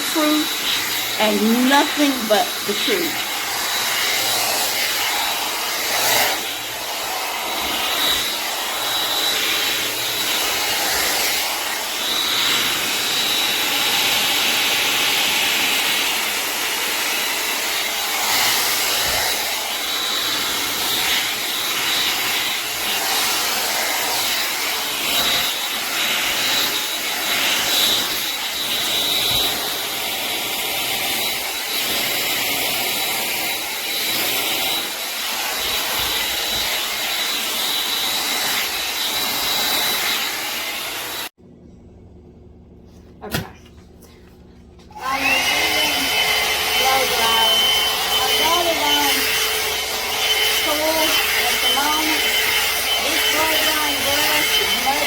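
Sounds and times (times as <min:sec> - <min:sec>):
hot air brush fan whine: 0:00.0 - 0:42.9, 0:44.3 - 0:55.0.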